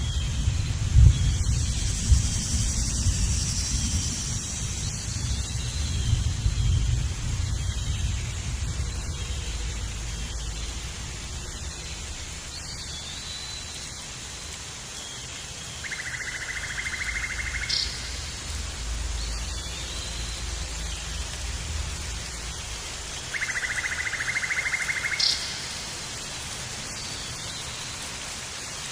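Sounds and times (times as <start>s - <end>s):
wind rumble on microphone: 0.0s - 28.9s.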